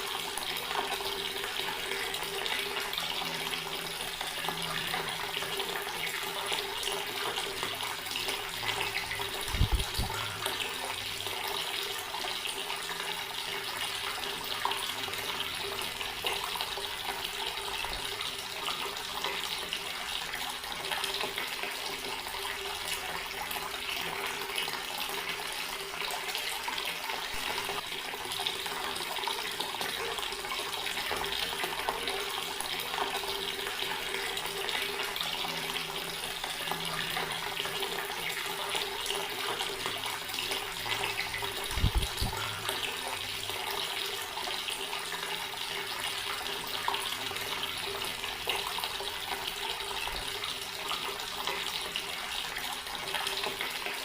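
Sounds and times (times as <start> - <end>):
water tap running into basin: 0.0 - 54.0.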